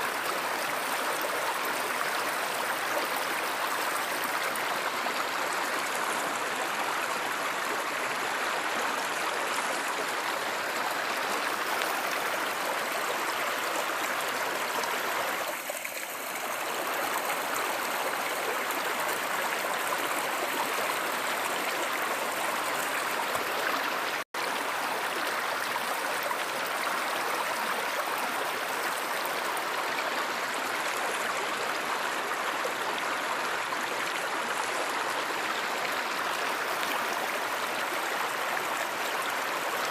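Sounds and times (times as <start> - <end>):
stream water rushing and babbling: 0.0 - 39.9.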